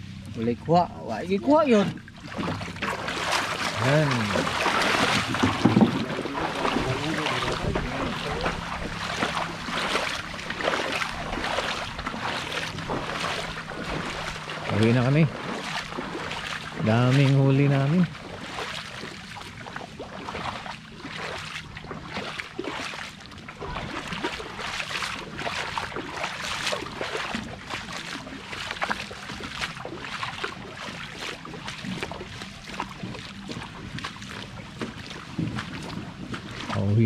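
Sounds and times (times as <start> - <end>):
water splashing around boat: 0.0 - 37.0.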